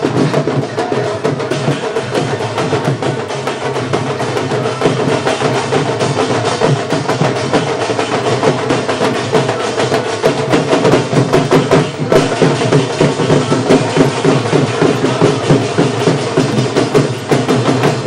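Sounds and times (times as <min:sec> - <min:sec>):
fast drumming: 0:00.0 - 0:18.0
procession music accompaniment: 0:00.0 - 0:18.0.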